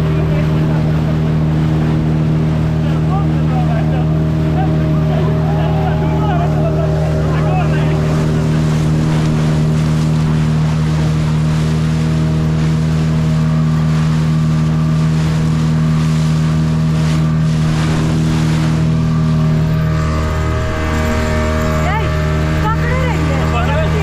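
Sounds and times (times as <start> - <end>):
speed boat motor running: 0.0 - 24.0
wind and water rushing: 0.0 - 24.0.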